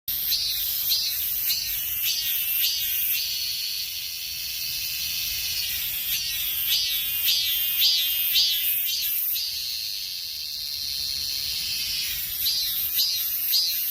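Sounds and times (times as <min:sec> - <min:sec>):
cicadas buzzing: 0:00.1 - 0:13.9.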